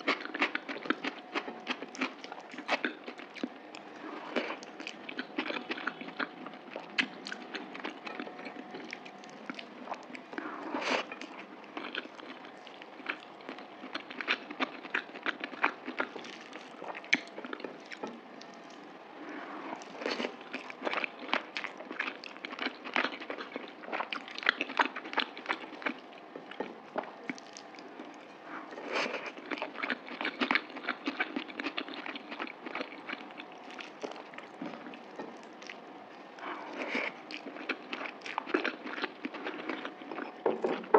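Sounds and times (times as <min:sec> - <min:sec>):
close chewing and mouth clicks: 0:00.0 - 0:40.9.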